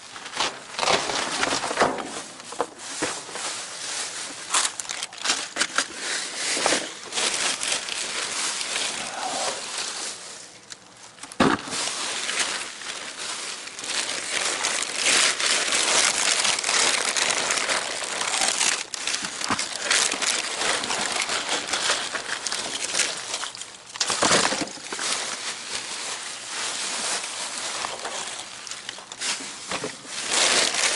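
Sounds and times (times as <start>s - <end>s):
packaging crinkling and rustling: 0.0s - 30.9s.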